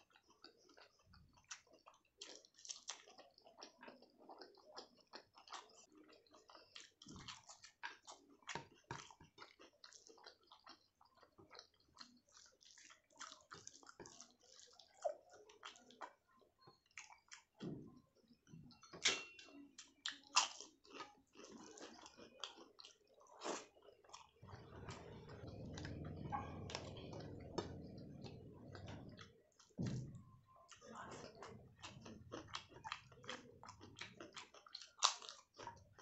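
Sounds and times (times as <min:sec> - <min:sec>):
chewing food: 0:00.0 - 0:36.0.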